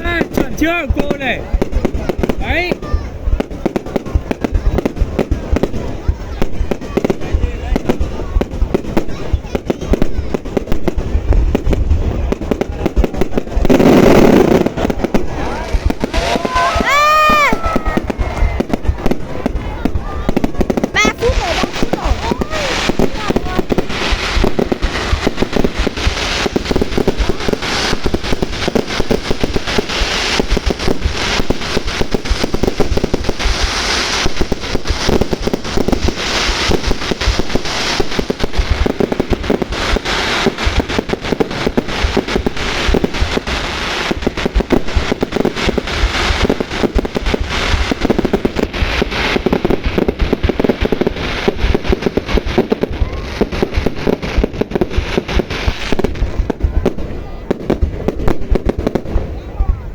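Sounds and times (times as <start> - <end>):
fireworks bangs and pops: 0.0 - 59.9.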